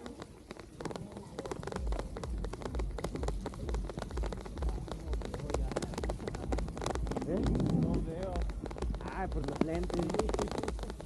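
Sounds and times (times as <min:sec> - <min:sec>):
rain tapping: 0:00.0 - 0:11.0.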